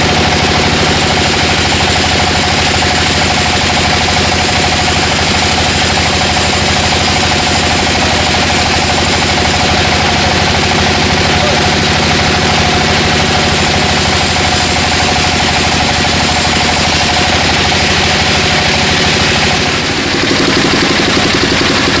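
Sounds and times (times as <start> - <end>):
sawmill engine running: 0.0 - 22.0.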